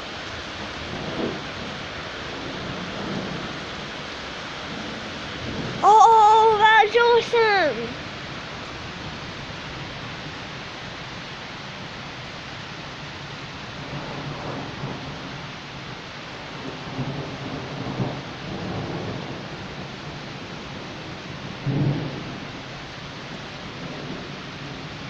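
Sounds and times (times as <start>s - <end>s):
thunder rumbling: 0.0s - 10.6s, 13.6s - 25.0s
rain hissing: 0.0s - 25.0s.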